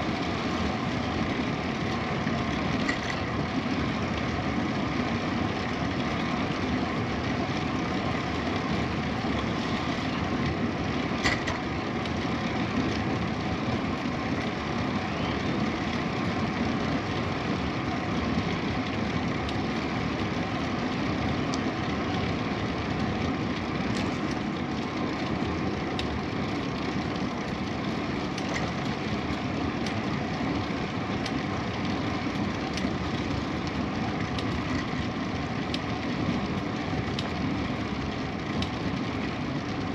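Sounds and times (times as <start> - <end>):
bicycle tyre rumble: 0.0 - 39.9.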